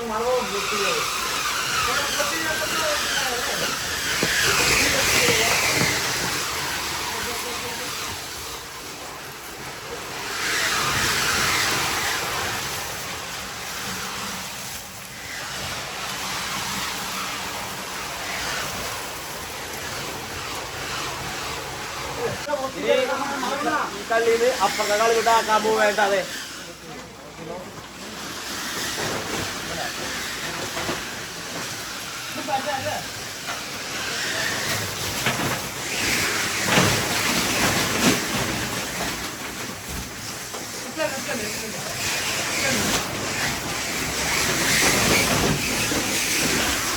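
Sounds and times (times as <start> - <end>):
ice-crushing machine rushing: 0.0 - 46.9.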